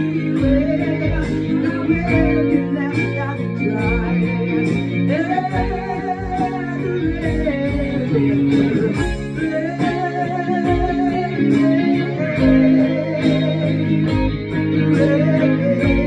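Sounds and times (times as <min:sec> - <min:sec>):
bass: 0:00.0 - 0:16.0
guitar melody: 0:00.0 - 0:16.0
steady low beat: 0:00.0 - 0:16.0.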